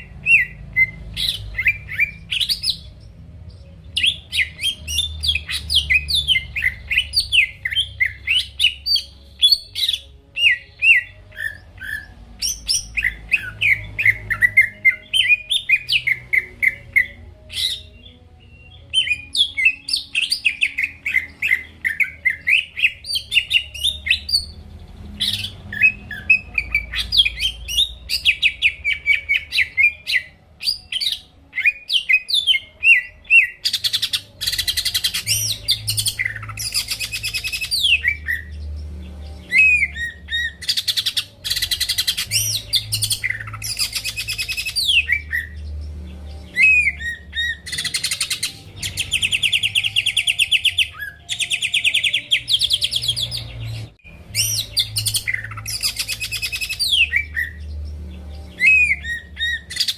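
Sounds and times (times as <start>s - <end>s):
bird singing trills and whistles: 0.0s - 59.9s.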